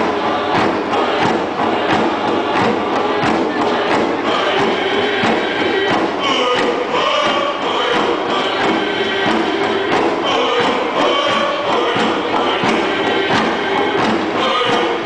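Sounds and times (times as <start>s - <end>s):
crowd noise: 0.0s - 15.0s
group singing a chant: 0.0s - 15.0s
hand drums beating: 0.0s - 15.0s.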